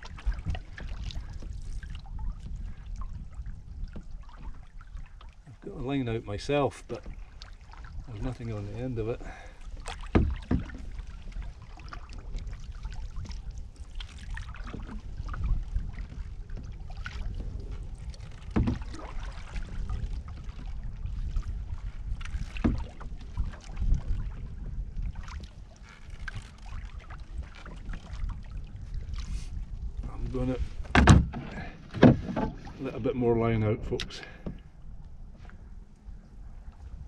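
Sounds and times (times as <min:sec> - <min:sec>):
paddle strokes through water: 0:00.0 - 0:37.0
wind rumble on microphone: 0:00.0 - 0:37.0.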